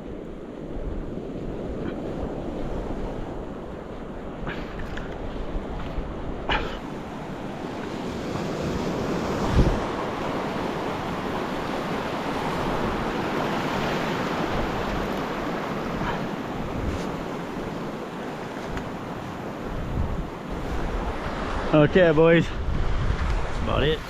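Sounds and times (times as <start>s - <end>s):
surf on rocky shore: 0.0s - 24.0s
wind buffeting microphone: 0.0s - 24.0s.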